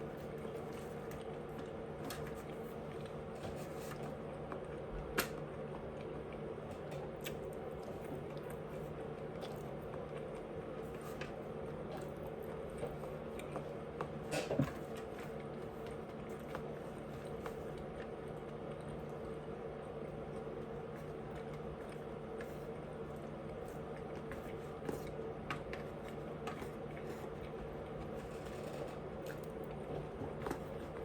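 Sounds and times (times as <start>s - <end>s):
person chewing food: 0.1s - 31.0s.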